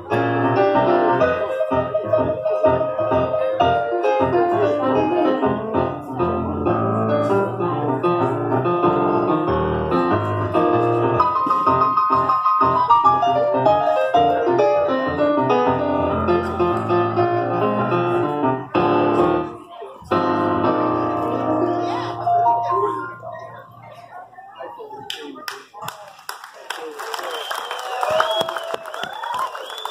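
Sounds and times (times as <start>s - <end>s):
keyboard piano playing: 0.0s - 24.8s.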